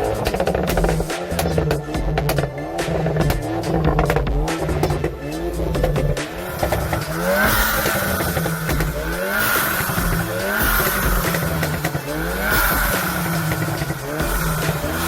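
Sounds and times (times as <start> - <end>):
car engine revving: 0.0 - 15.0
exhaust pops and crackles: 0.0 - 15.0.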